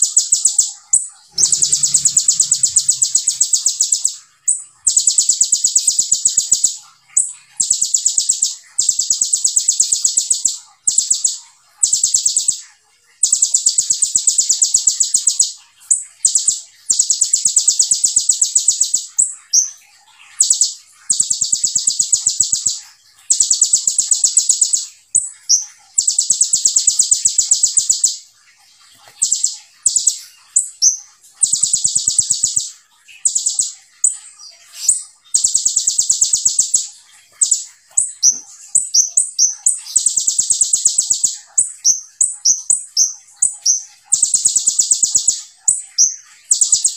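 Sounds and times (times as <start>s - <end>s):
sunbird singing trills: 0.0s - 46.9s.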